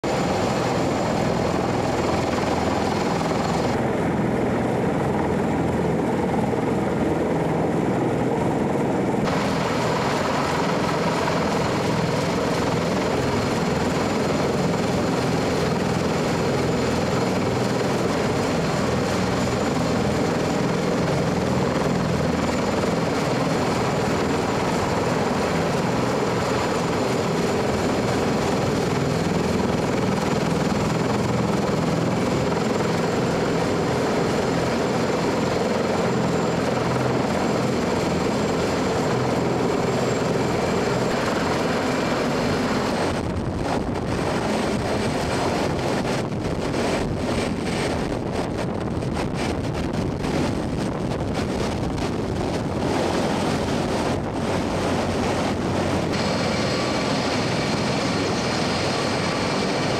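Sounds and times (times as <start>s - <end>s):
helicopter rotor rumble: 0.0s - 59.9s
high turbine whine: 0.0s - 59.9s.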